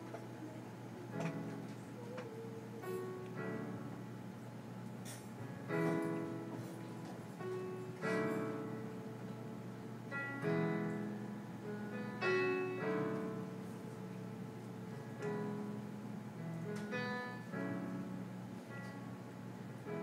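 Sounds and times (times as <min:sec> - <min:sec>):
piano chords played slowly: 0:00.0 - 0:20.0.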